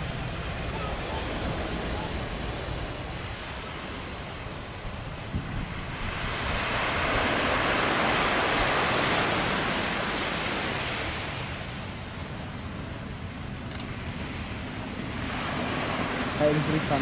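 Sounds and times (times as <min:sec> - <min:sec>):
wave breaking on shore: 0:00.0 - 0:12.2, 0:13.9 - 0:17.0.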